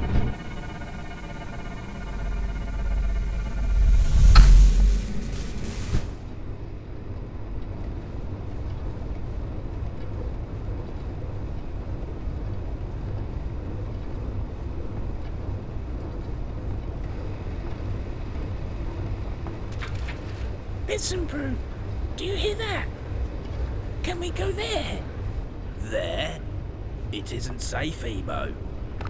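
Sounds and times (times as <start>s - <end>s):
low mechanical rumble: 0.0s - 22.2s, 22.9s - 29.0s.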